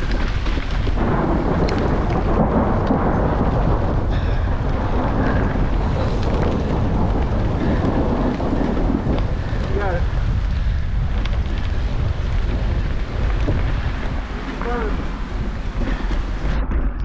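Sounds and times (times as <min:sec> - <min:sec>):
bike rattling: 0:00.0 - 0:17.0
tyres on wet ground: 0:00.0 - 0:17.0
wind on microphone: 0:00.0 - 0:17.0.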